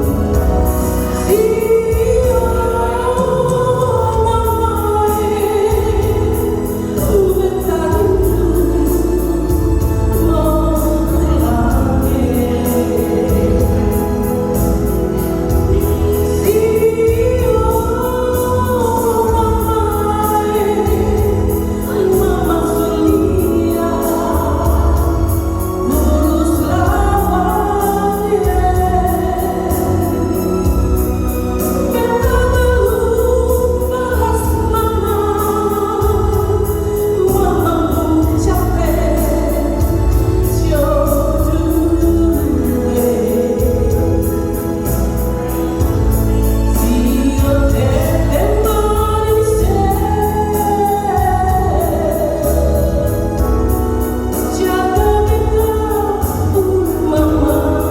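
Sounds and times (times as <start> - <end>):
electronic organ keyboard: 0.0 - 57.9
steady bass line: 0.0 - 57.9
woman singing: 0.0 - 57.9.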